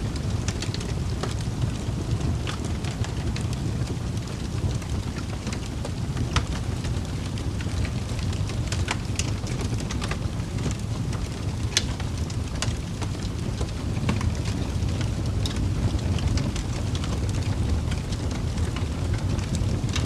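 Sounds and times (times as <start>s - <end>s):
fire crackles and pops: 0.0s - 20.0s
fire flames rumbling: 0.0s - 20.0s.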